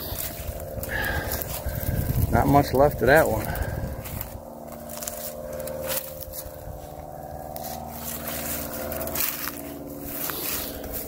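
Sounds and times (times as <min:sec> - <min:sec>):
footsteps through dry leaves: 0:00.0 - 0:11.0
low hum of held tones: 0:00.0 - 0:11.0.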